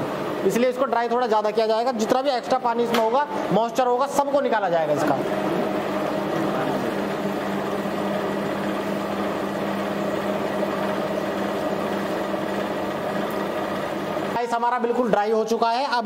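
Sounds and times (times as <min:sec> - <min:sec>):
spin dryer humming: 0:00.0 - 0:16.0.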